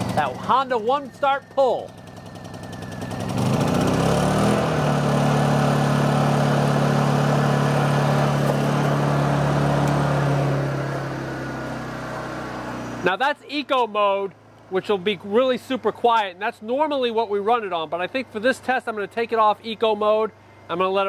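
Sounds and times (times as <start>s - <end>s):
generator engine running: 0.0s - 21.0s.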